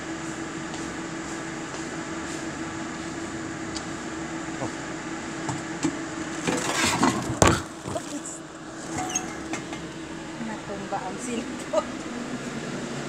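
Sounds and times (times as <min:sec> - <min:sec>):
exhaust fan humming: 0:00.0 - 0:13.0.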